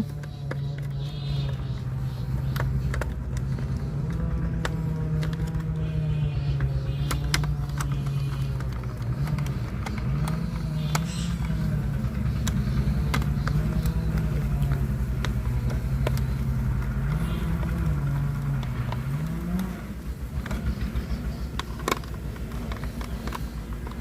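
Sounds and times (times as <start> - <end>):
sharp clicks: 0.0 - 24.0.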